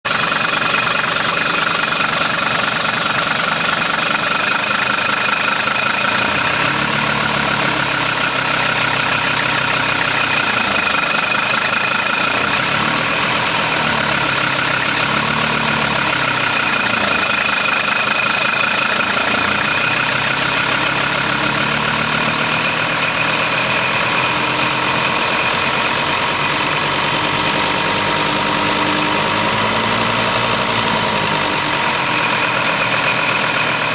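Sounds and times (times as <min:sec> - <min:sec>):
diesel engine idling: 0:00.0 - 0:33.9
engine knock: 0:00.0 - 0:33.9.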